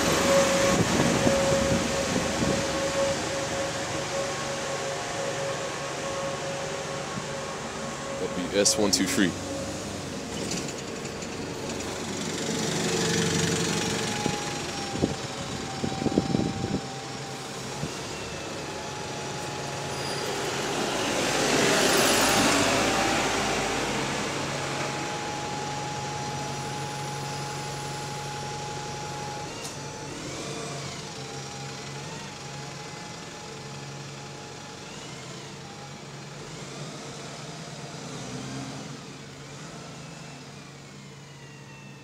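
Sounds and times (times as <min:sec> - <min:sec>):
buses passing and pulling away: 0:00.0 - 0:42.0.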